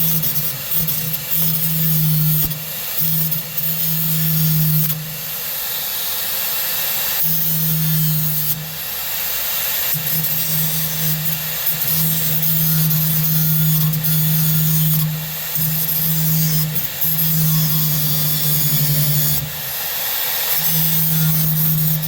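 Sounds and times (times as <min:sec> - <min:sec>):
electric grinder grinding metal: 0:00.0 - 0:22.0.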